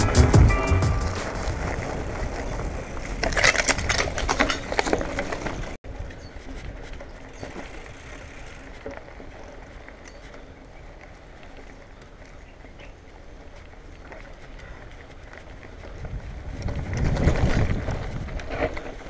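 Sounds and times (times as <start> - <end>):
bike ticking: 0.0 - 19.0
tyres on dirt trail: 0.0 - 19.0
bike tyres crunching on gravel: 0.8 - 19.0
bike clattering and rattling: 1.0 - 19.0.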